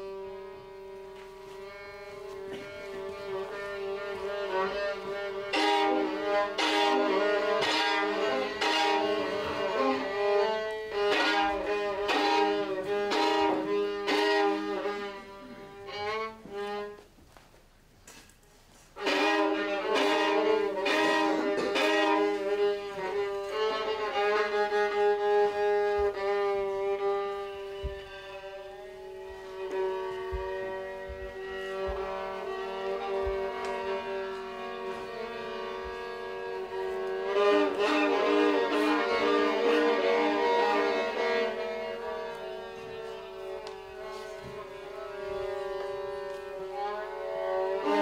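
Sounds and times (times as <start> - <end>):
violins playing short strokes: 0.0 - 17.1, 18.8 - 48.0.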